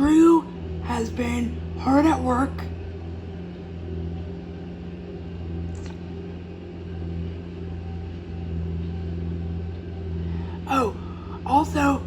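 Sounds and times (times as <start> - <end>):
machine engine humming: 0.0 - 12.0.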